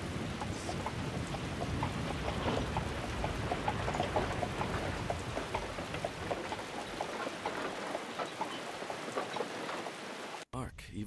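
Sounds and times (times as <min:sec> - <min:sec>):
scattered water drips: 0:00.0 - 0:10.4
steady downpour: 0:00.0 - 0:10.4.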